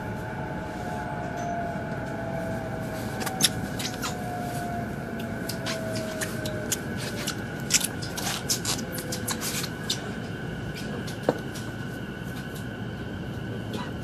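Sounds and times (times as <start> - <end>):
traction motor whine: 0.0 - 13.7
train wheels rumbling: 0.0 - 14.0.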